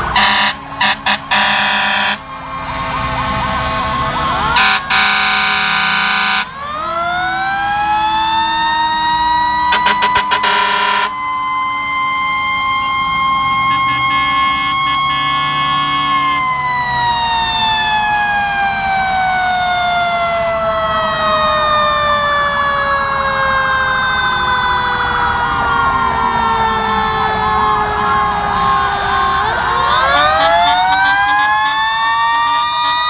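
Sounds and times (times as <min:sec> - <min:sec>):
fire truck sirens: 0:00.0 - 0:33.0.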